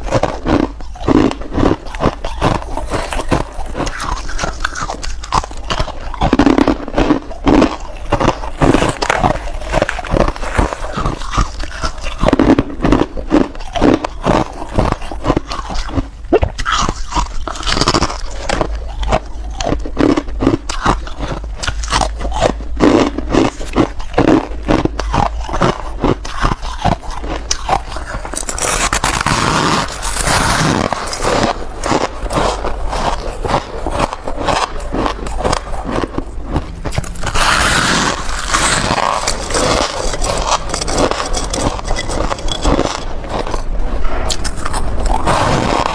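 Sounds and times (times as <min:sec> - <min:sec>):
crisp crunches of biting ice: 0:00.0 - 0:45.9.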